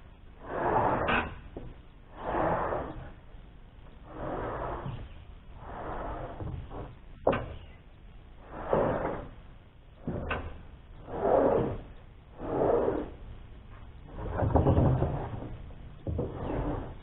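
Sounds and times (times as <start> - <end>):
boards scraping: 0.4 - 3.3, 4.0 - 7.8, 8.4 - 17.0.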